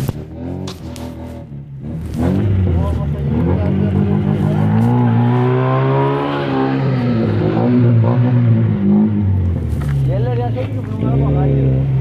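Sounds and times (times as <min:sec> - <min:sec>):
car engine through loud exhaust: 0:00.0 - 0:12.0.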